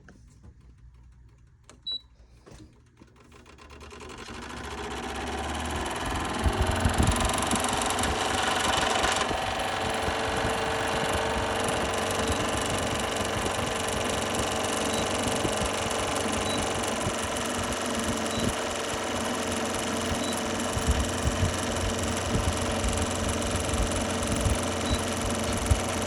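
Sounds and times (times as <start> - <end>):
air conditioner rattling buzz: 0.0 - 26.0.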